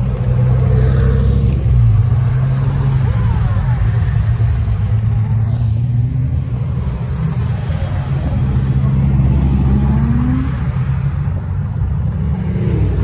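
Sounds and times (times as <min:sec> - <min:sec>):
sports car engines running: 0:00.0 - 0:13.0.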